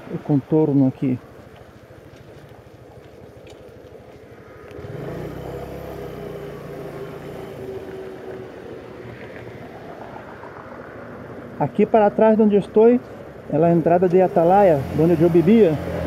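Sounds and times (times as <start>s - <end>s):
motorcycle engine idling and revving: 1.2s - 16.0s.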